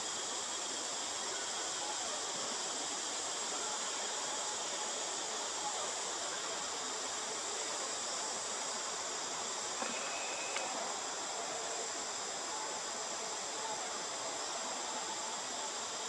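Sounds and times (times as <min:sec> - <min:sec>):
forest insects droning: 0:00.0 - 0:16.0.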